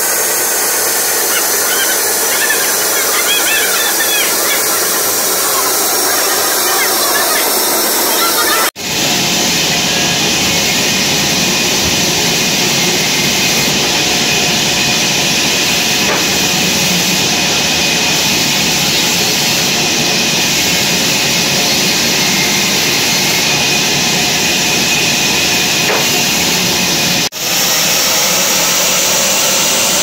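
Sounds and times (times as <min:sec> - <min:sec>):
band sawmill sawing log: 0:00.0 - 0:30.0.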